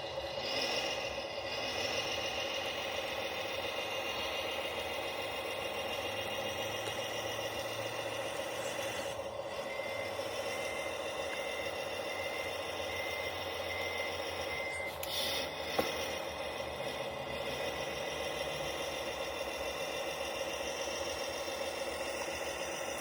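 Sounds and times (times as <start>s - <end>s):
high motor whine: 0.0s - 23.0s
toy truck motor whirring: 0.0s - 23.0s.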